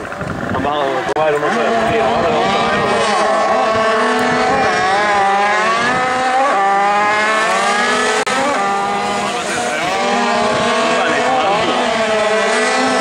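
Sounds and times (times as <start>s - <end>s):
moped engines revving: 0.0s - 13.0s.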